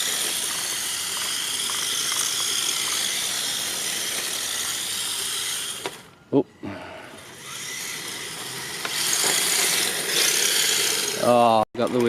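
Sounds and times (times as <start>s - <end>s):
rc car motor and tyres hissing: 0.0s - 12.0s.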